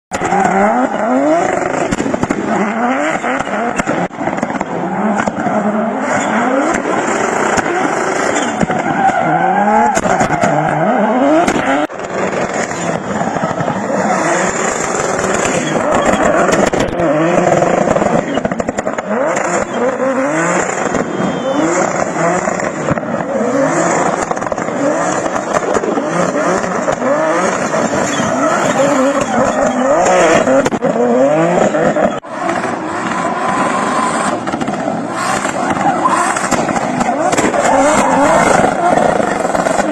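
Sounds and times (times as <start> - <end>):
tyres squealing and skidding: 0.1 - 1.9, 2.5 - 39.9
car engine revving: 0.1 - 39.9.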